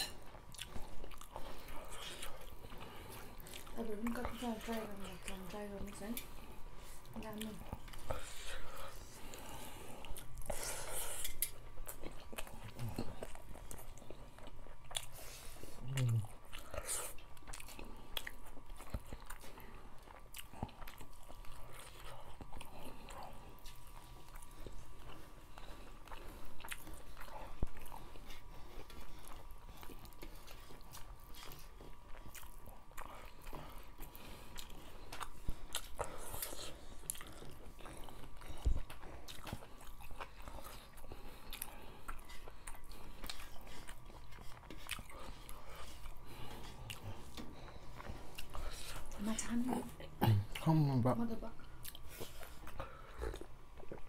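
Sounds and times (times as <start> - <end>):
faint steady hum: 0.0 - 54.0
wet chewing and lip smacks: 0.2 - 49.4, 51.6 - 54.0.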